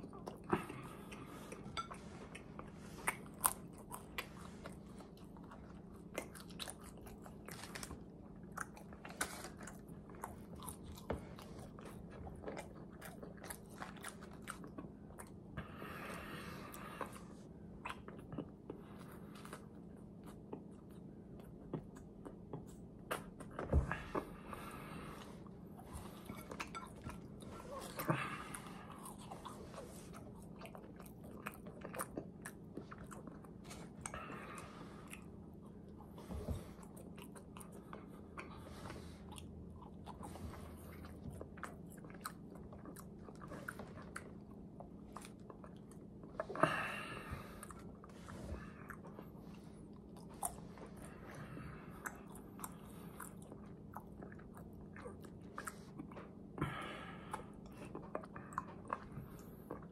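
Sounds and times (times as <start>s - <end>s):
crunchy chewing: 0.0s - 59.9s
faint steady hum: 0.0s - 59.9s.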